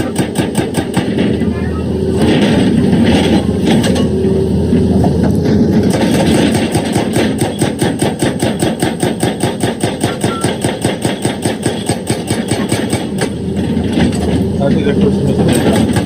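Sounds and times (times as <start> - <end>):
excavator diesel engine pulsing: 0.0 - 16.0.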